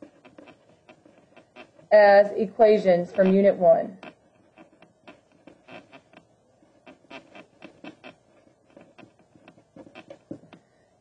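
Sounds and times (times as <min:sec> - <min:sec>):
pen scratching on paper: 0:00.0 - 0:10.6.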